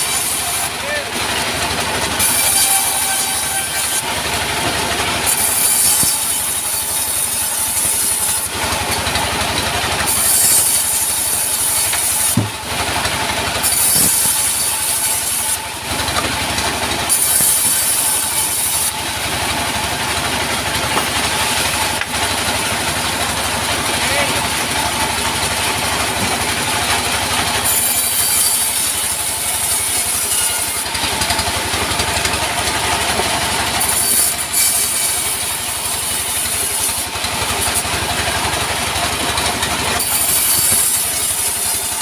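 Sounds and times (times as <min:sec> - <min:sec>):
band saw cutting wood: 0:00.0 - 0:42.0
diesel engine running: 0:00.0 - 0:42.0.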